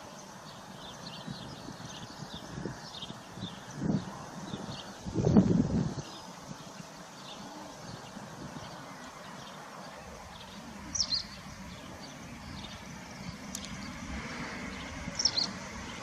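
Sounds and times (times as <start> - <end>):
bird chirps: 0.0 - 5.0, 5.8 - 16.0.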